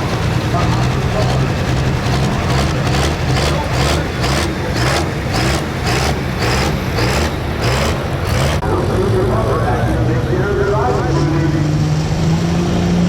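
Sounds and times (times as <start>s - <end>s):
tractor diesel engine running hard: 0.0s - 13.0s.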